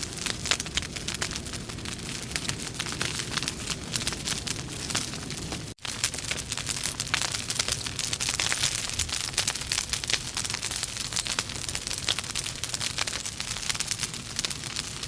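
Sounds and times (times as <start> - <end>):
burning logs crackling and popping: 0.0 - 15.0
hiss and rumble of flames: 0.0 - 15.0.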